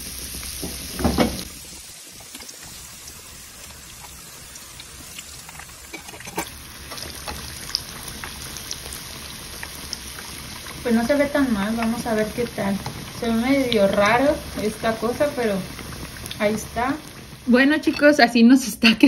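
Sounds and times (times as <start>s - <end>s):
batter sizzling in hot oil: 0.0s - 18.8s.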